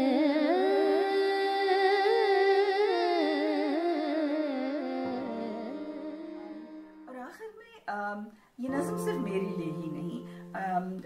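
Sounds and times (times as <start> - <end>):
woman singing slow song: 0.0 - 7.1, 8.6 - 11.0.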